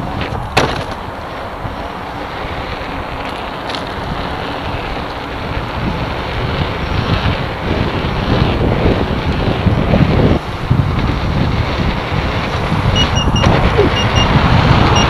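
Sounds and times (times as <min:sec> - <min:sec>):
electric unicycle riding: 0:00.0 - 0:15.0
wind buffeting microphone: 0:00.0 - 0:15.0.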